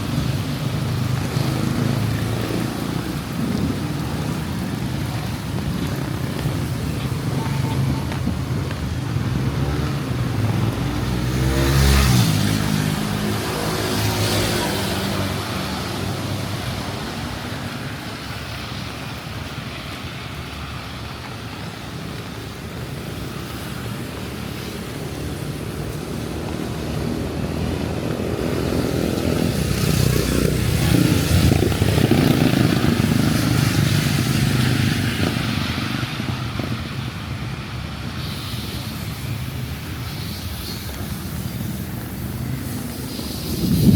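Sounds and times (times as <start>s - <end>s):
rain hiss: 0.0s - 43.9s
vehicles passing on wet street: 0.0s - 43.9s.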